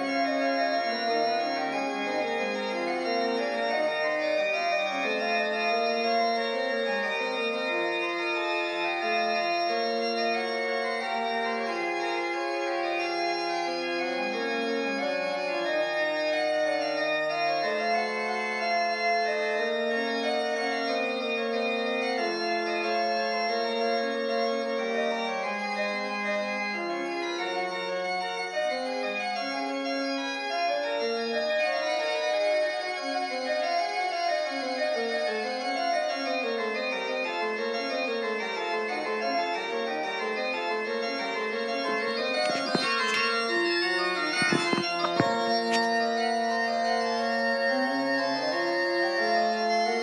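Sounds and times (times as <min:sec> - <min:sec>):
organ music: 0:00.0 - 0:50.0.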